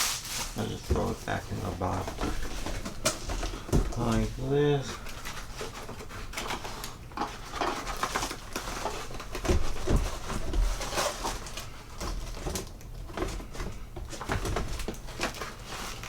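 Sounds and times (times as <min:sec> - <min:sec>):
packing material crinkling: 0:00.0 - 0:16.0.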